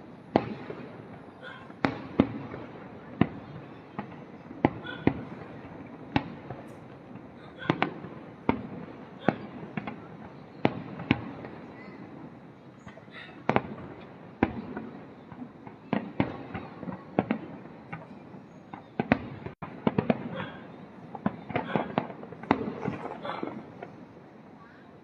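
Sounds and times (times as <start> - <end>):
sharp firework bangs: 0.3 - 12.2, 13.4 - 24.1.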